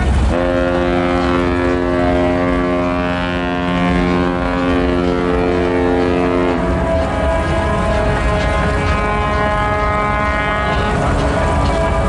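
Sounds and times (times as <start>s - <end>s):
low rumble: 0.0s - 12.0s
ship's horn blast: 0.0s - 12.0s.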